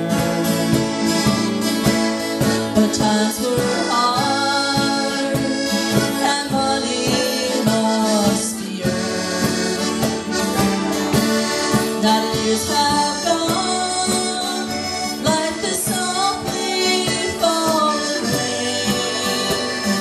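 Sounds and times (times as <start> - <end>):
accordion melody: 0.0 - 20.0
cajon beat: 0.0 - 20.0
strummed acoustic guitar: 0.0 - 20.0.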